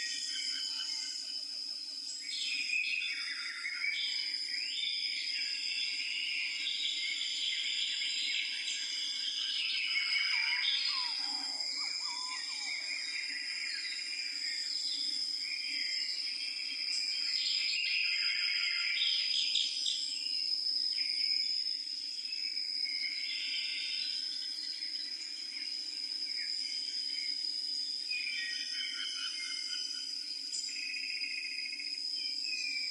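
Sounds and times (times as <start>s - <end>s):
insect chirping calls: 0.0s - 32.9s.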